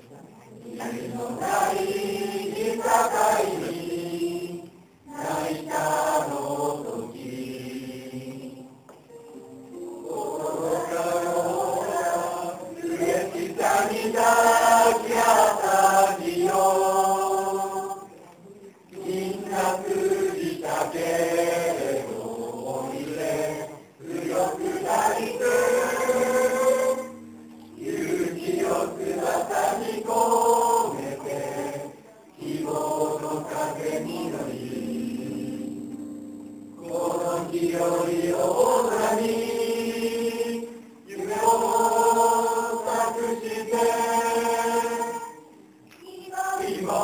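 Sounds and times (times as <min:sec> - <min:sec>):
mixed choir singing: 0:00.0 - 0:18.3, 0:18.9 - 0:36.1, 0:36.7 - 0:47.0.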